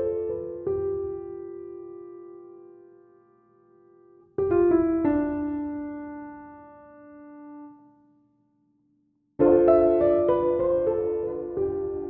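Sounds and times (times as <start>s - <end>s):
slow solo piano: 0.0s - 8.0s, 9.4s - 12.0s.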